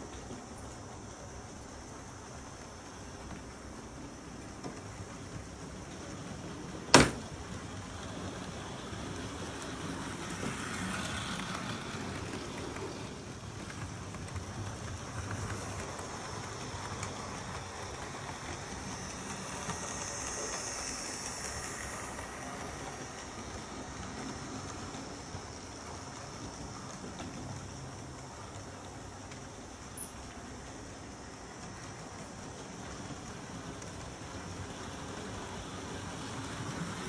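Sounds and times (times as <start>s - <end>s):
model trains rolling: 0.0s - 37.0s.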